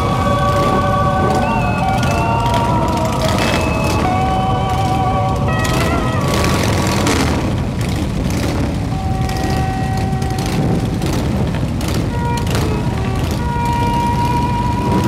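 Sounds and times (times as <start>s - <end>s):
many motorcycles rumbling: 0.0s - 15.0s.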